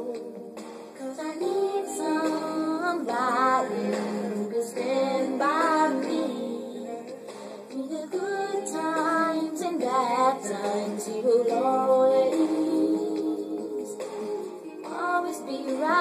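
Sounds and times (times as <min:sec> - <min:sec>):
girls singing a slow ballad: 0:00.0 - 0:16.0.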